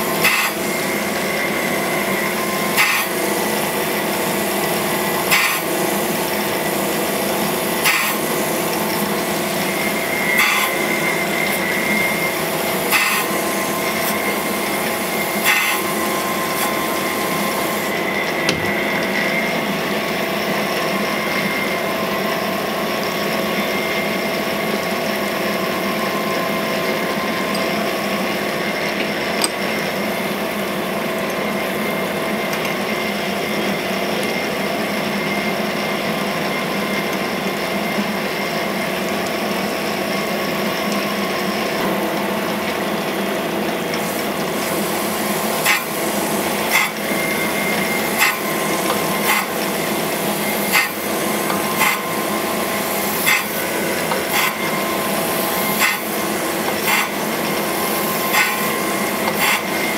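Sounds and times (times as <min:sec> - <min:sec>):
grinding wheel hissing grind: 0:00.0 - 0:32.9, 0:41.2 - 0:59.9
machine humming: 0:00.0 - 0:59.9.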